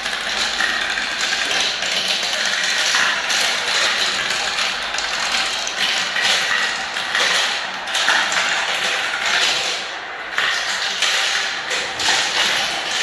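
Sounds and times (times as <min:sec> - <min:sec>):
marbles rattling down a ramp: 0:00.0 - 0:13.0.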